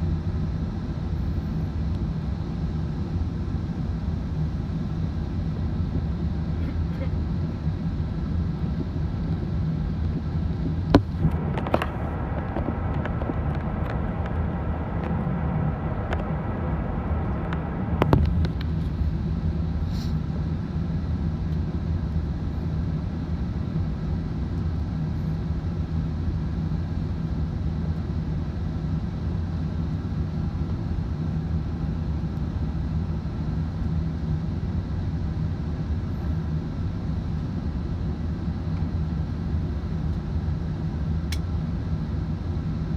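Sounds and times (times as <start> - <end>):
airplane cabin engine rumble: 0.0 - 42.9
steady hum: 0.0 - 42.9.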